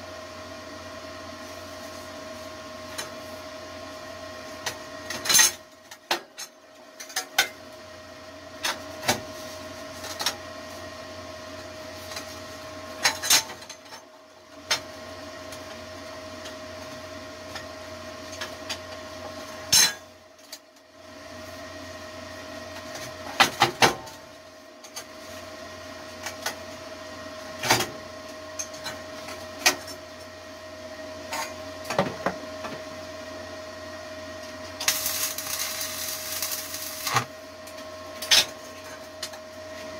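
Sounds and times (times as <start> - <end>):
welder electrical hum: 0.0 - 39.9.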